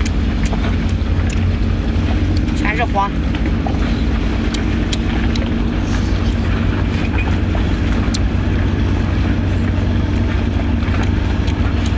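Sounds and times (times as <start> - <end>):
low mechanical drone: 0.0 - 11.9.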